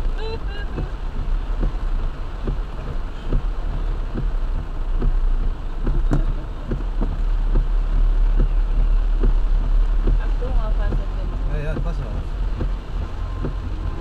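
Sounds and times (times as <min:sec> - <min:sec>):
heavy rain drumming on car roof: 0:00.0 - 0:14.0
low rumble of moving car: 0:00.0 - 0:14.0.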